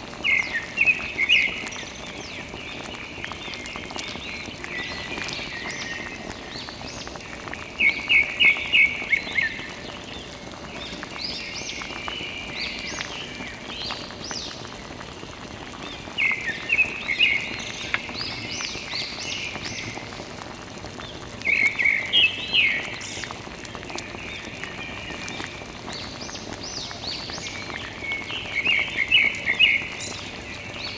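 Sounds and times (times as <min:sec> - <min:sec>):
water trickling onto dirt: 0:00.0 - 0:30.9.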